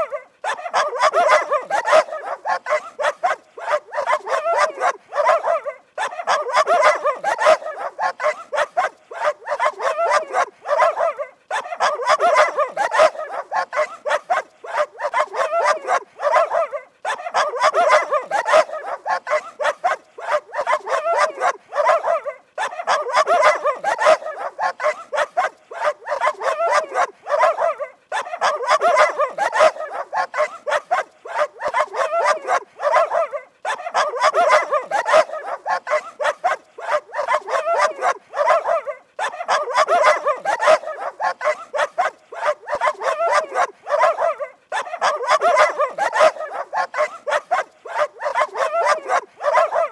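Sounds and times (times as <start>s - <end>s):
dog barking rapidly: 0.0s - 49.9s.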